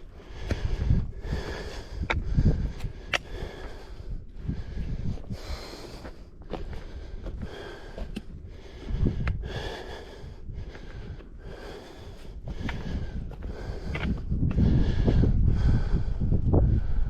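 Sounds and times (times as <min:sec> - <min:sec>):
footsteps on a trail: 0:00.0 - 0:16.6
person breathing hard: 0:00.0 - 0:17.0.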